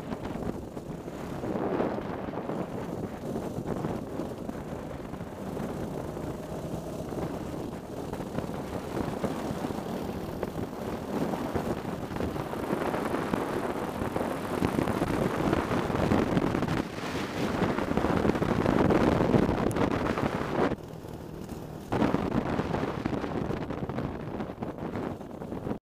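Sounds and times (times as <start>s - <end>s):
kart engine running at speed: 0.0s - 25.8s
wind on microphone: 0.0s - 25.8s.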